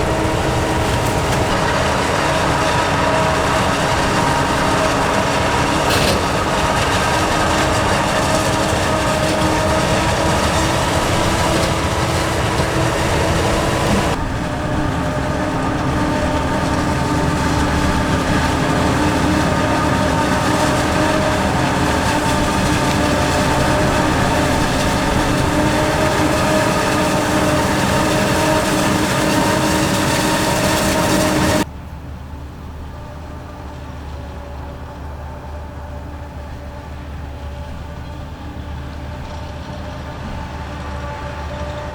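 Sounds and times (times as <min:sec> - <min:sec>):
diesel farm machinery running: 0:00.0 - 0:41.9.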